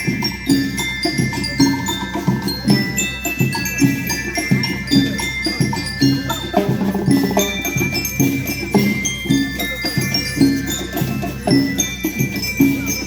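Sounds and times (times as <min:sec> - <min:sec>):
metallophone melody: 0:00.0 - 0:13.0
steady drum beat: 0:00.0 - 0:13.0.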